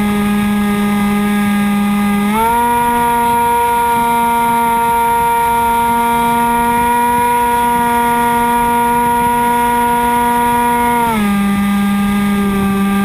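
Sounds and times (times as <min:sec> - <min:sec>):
model plane electric motor whining: 0:00.0 - 0:13.0.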